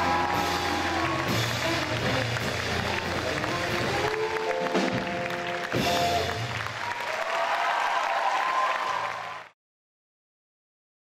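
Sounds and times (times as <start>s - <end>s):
audience applause: 0.0s - 9.6s.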